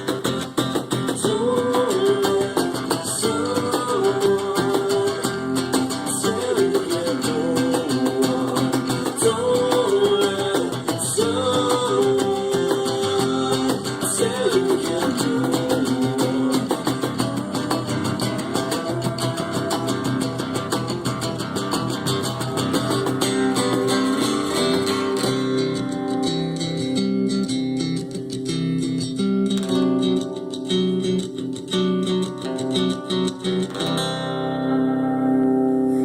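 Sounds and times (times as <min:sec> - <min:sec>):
acoustic guitars playing rock: 0:00.0 - 0:36.0.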